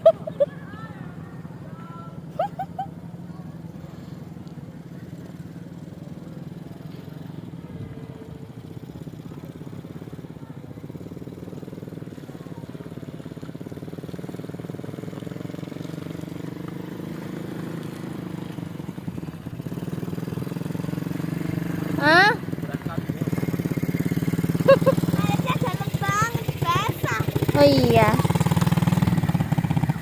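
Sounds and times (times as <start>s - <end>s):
small atv engine running: 0.0s - 30.0s.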